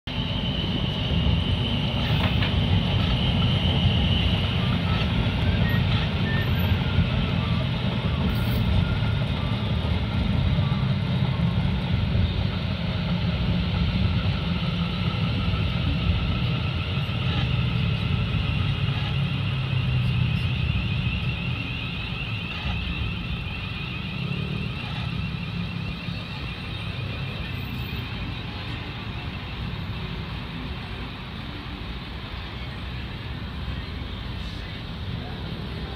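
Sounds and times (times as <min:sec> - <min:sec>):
road vehicle rumble: 0:00.1 - 0:35.9.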